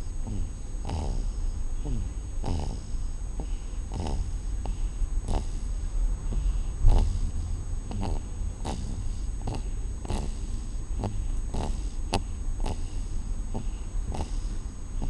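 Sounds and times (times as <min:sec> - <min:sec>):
snoring in short snorts: 0:00.2 - 0:05.7, 0:06.3 - 0:15.0.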